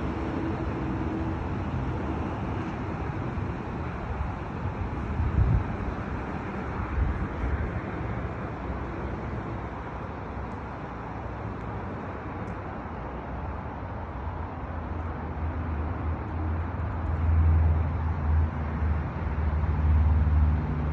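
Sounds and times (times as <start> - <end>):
low engine hum: 0.0 - 20.9
road traffic hiss: 0.0 - 20.9.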